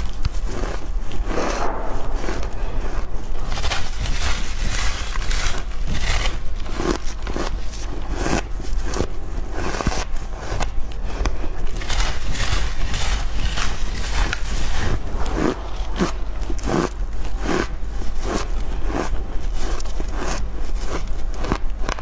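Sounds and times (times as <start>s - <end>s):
crunching ice with teeth: 0.0s - 1.6s, 2.3s - 22.0s.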